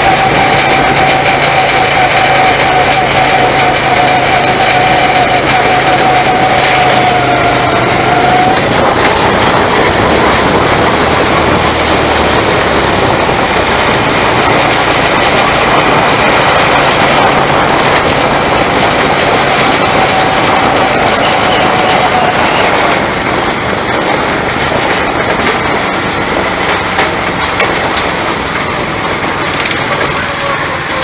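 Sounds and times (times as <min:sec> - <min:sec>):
go-kart engine running: 0:00.0 - 0:31.0
steady rushing noise: 0:00.0 - 0:31.0.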